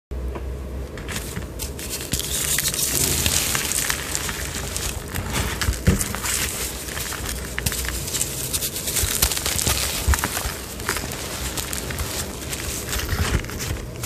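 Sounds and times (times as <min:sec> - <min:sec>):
chalk crushed by hand: 0:01.0 - 0:14.0.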